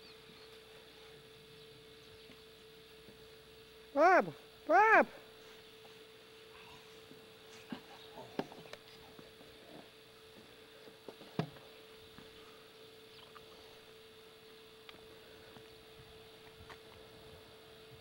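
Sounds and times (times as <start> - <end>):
camcorder hum and hiss: 0.0 - 18.0.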